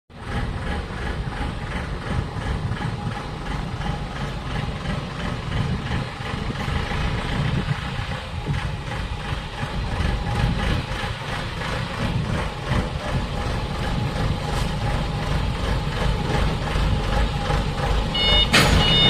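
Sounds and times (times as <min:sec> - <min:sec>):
heavy engine idling: 0:00.1 - 0:19.0.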